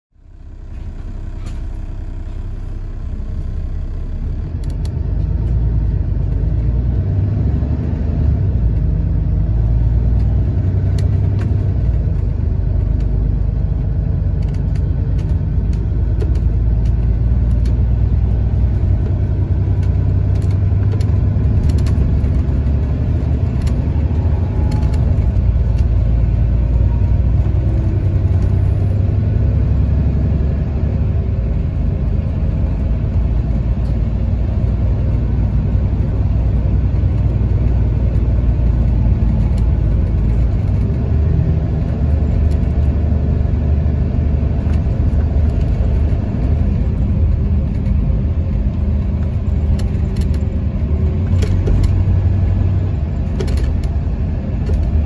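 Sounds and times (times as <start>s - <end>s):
bus diesel engine accelerating: 0.1s - 55.0s.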